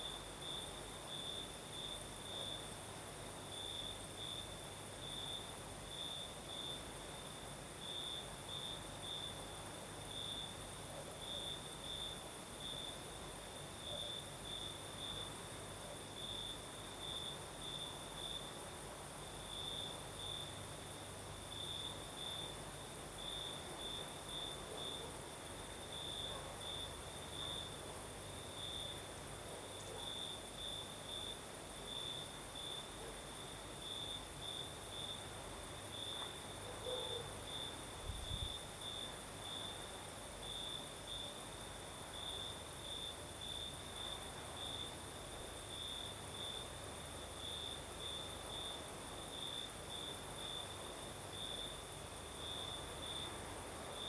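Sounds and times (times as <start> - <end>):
crickets chirping: 0.0 - 54.0
night breeze rumble: 0.0 - 54.0.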